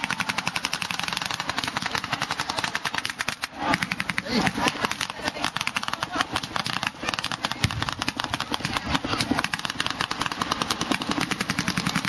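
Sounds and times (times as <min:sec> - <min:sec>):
rapid gunfire: 0:00.0 - 0:12.0.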